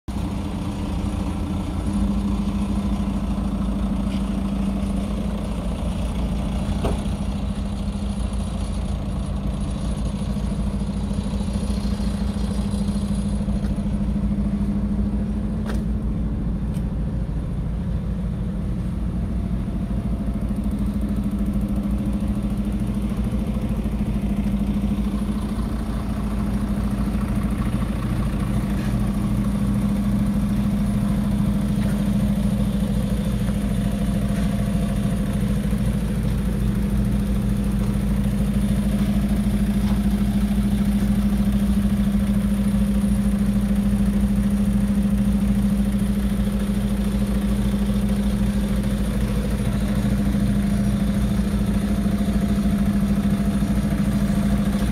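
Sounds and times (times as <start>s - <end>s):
diesel engine idling: 0.1s - 54.9s.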